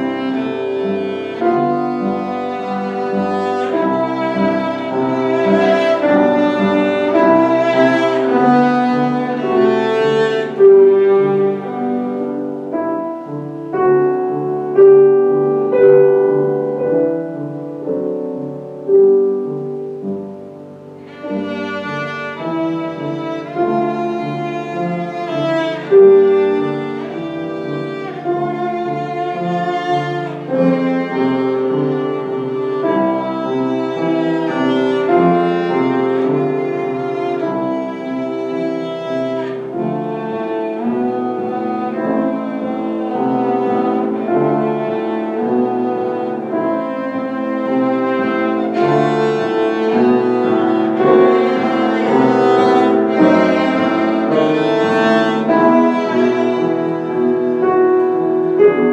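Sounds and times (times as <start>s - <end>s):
bowed string instrument melody: 0.0s - 58.9s
piano accompaniment: 0.0s - 58.9s.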